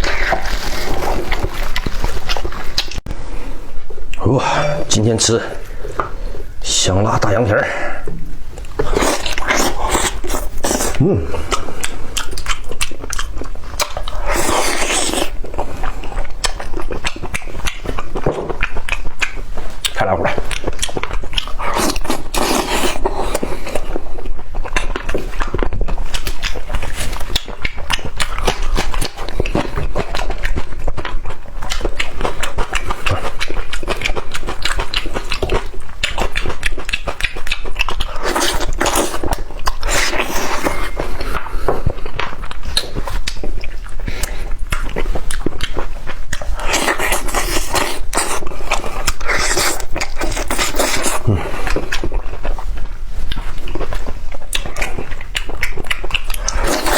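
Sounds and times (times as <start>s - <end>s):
crackly gnawing: 0.0s - 3.1s, 8.5s - 56.9s
wet chewing: 0.0s - 3.1s, 8.0s - 56.9s.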